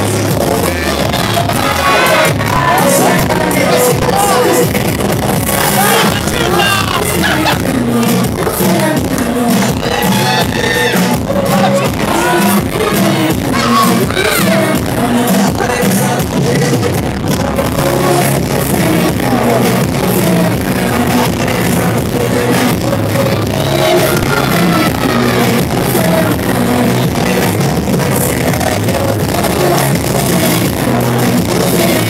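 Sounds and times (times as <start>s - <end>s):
amplified live pop music: 0.0s - 32.0s
man singing: 0.0s - 32.0s.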